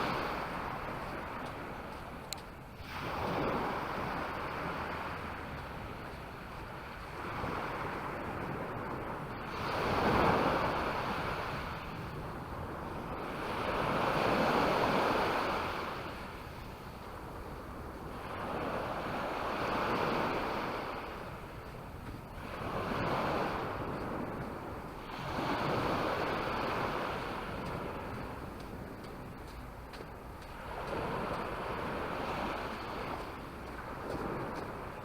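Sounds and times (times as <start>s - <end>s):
sea waves breaking on shore: 0.0s - 35.0s
wind on microphone: 0.0s - 35.0s.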